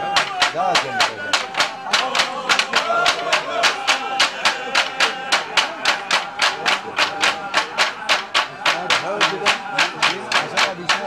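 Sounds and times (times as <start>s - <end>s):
folk music with sharp beats: 0.0s - 11.0s.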